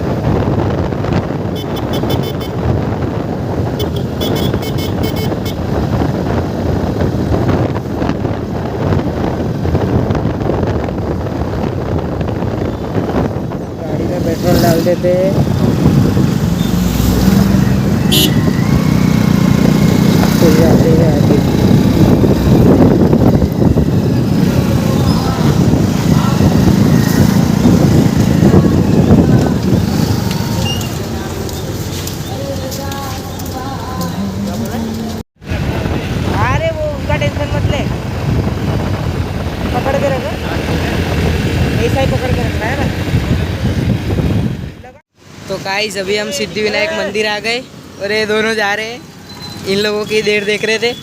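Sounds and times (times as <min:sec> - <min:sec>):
wind buffeting microphone: 0:00.0 - 0:45.0
motorcycle engine and road noise: 0:00.0 - 0:51.0.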